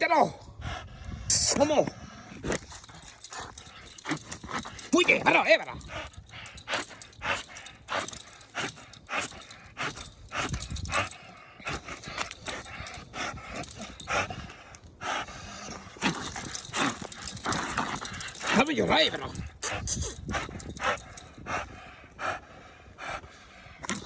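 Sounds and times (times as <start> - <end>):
dog breathing hard: 0.4 - 24.0.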